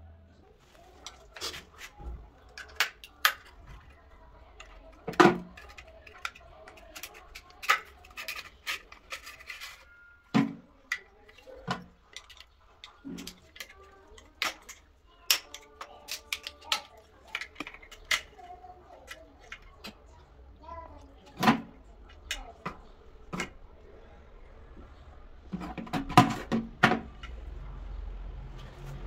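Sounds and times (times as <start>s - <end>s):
hard parts clicking and knocking: 1.0s - 23.7s, 25.5s - 27.6s.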